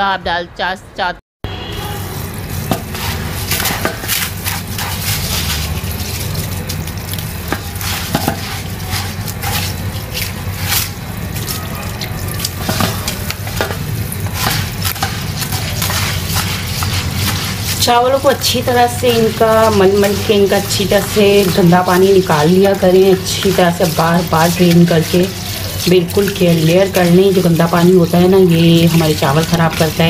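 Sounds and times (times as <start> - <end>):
rice swished in water: 2.3 - 30.0.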